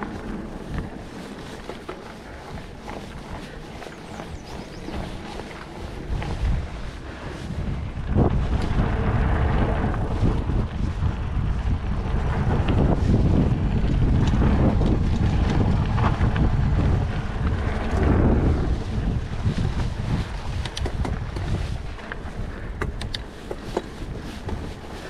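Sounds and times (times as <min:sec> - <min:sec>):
bike clicks and rattles: 0:00.0 - 0:25.0
bike tyres rumbling over dirt: 0:00.0 - 0:25.0
wind on microphone: 0:00.0 - 0:25.0.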